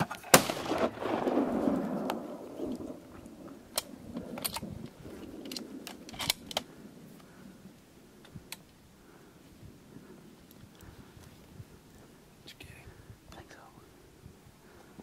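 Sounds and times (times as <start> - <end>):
faint low rumble: 0.4 - 15.0.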